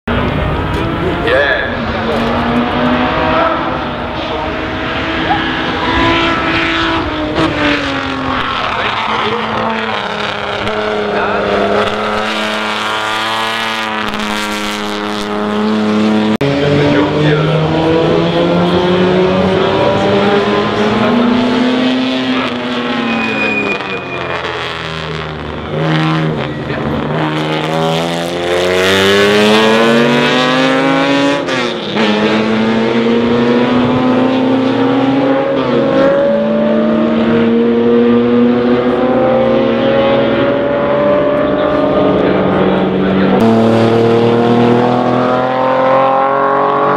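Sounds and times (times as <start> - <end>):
racing car engines at full throttle: 0.1 - 46.9.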